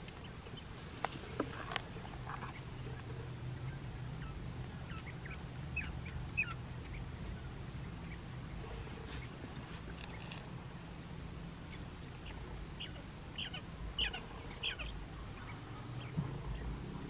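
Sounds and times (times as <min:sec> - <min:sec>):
quail chirping: 0:00.0 - 0:10.5, 0:11.6 - 0:16.7
faint low hum: 0:00.0 - 0:17.0.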